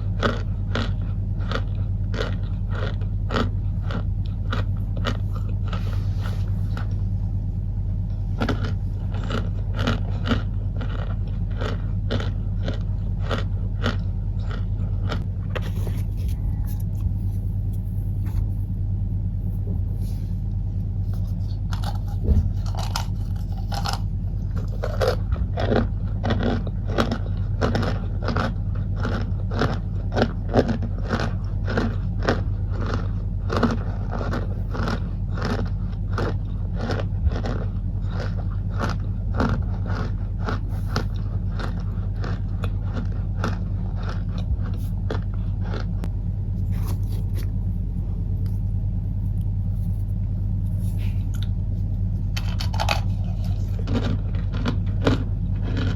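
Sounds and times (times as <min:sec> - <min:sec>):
cornstarch chunks crunching: 0:00.0 - 0:07.4, 0:08.0 - 0:18.7, 0:19.4 - 0:55.9
steady low hum: 0:00.0 - 0:55.9.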